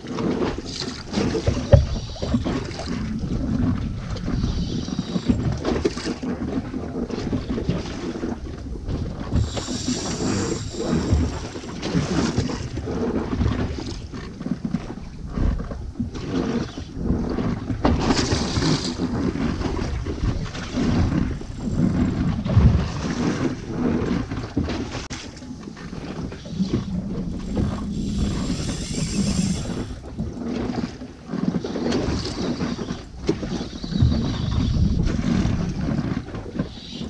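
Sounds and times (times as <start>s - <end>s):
water sloshing against hull: 0.0s - 37.0s
wind buffeting microphone: 0.0s - 37.0s.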